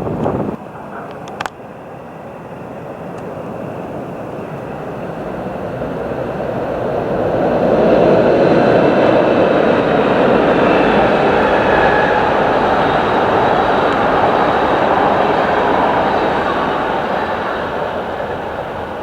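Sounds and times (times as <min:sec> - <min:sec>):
train approaching: 0:00.0 - 0:19.0.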